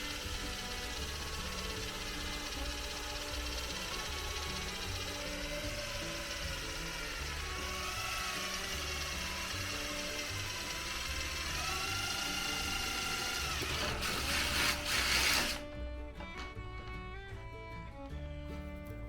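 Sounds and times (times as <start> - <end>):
tool ratcheting and rattling: 0.0 - 17.0
background music: 0.0 - 19.0.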